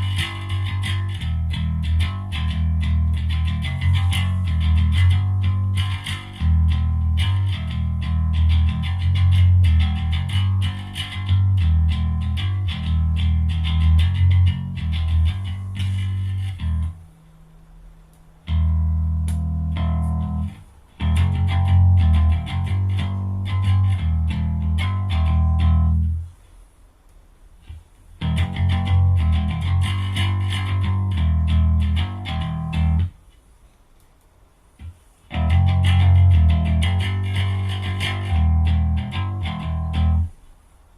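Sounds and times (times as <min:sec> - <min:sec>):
electric bass guitar riffs: 0:00.0 - 0:17.0, 0:18.5 - 0:26.3, 0:27.7 - 0:33.2, 0:34.8 - 0:40.3.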